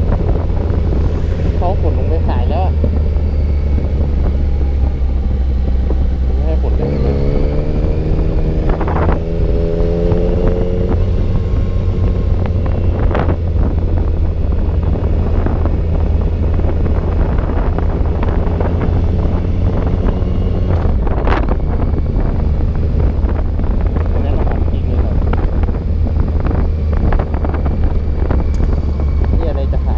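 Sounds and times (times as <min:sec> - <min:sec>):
motorcycle engine: 0:00.0 - 0:29.9
wind rumbling over microphone: 0:00.0 - 0:29.9.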